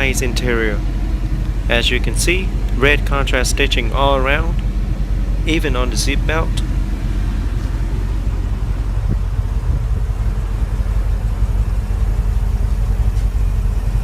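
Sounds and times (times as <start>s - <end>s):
engine hum and rumble: 0.0s - 14.0s.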